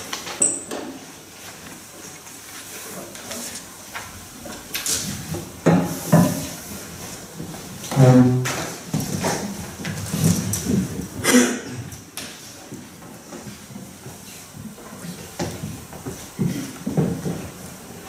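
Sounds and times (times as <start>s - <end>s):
scraping and creaking noises: 1.4s - 18.0s.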